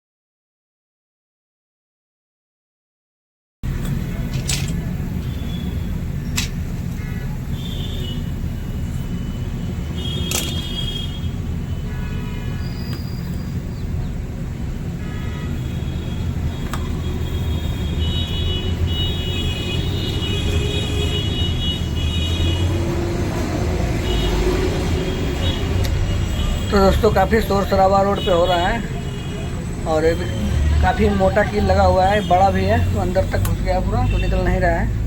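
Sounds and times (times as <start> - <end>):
passing vehicles rumbling: 3.6 - 35.0
car horns beeping: 3.9 - 13.7, 14.8 - 35.0.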